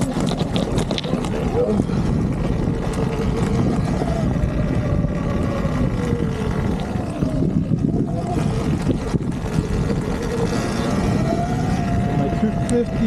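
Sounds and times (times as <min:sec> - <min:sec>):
rough trail riding noise: 0:00.0 - 0:13.0
electric dirt bike motor whine: 0:01.4 - 0:13.0.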